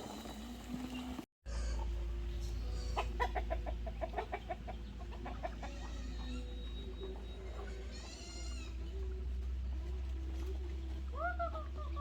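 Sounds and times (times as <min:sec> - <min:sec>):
chickens clucking: 0:00.8 - 0:12.0.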